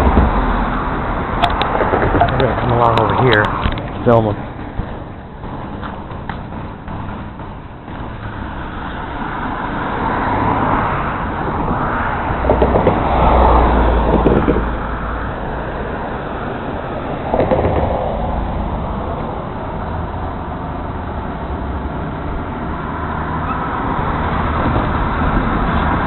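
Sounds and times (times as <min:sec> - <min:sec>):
road traffic passing: 0:00.0 - 0:26.0
vehicle passing with deep rumble: 0:00.0 - 0:26.0.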